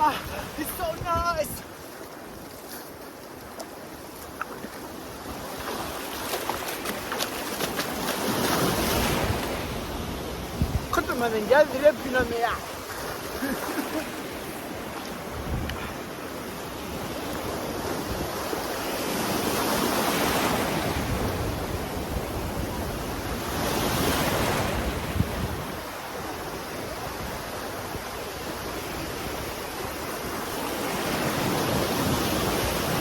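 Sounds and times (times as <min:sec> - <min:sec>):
sea waves washing: 0:00.0 - 0:33.0.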